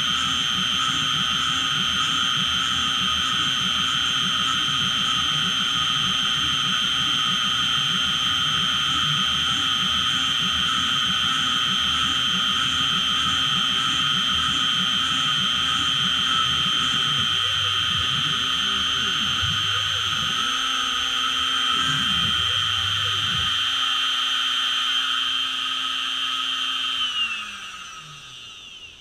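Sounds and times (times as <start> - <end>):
milling machine spindle whine: 0.0 - 29.0.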